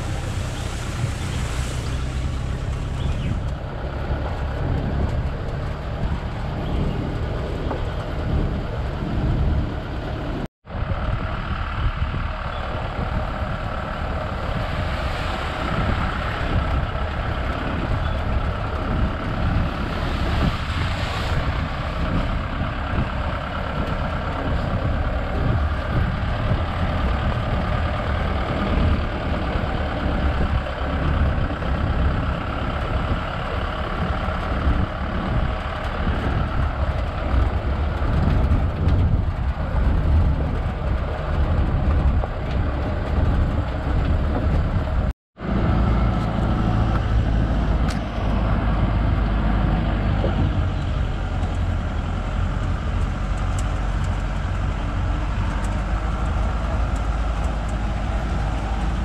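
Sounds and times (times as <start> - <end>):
road noise: 0.0 - 59.0
vehicle engine rumbling: 0.0 - 59.0.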